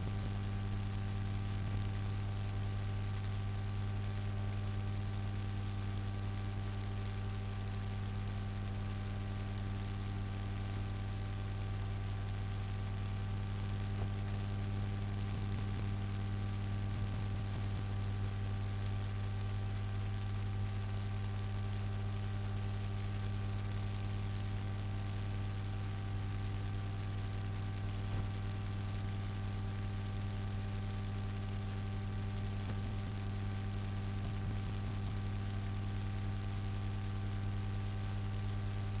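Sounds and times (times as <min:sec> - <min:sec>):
constant hiss: 0:00.0 - 0:10.8, 0:11.4 - 0:20.3, 0:25.6 - 0:37.5
electrical mains hum: 0:00.0 - 0:39.0.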